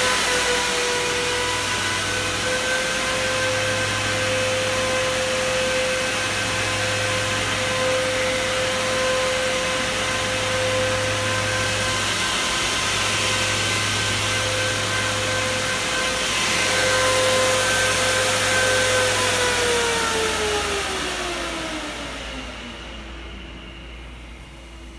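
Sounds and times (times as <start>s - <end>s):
fans rushing air with whine: 0.0s - 24.9s.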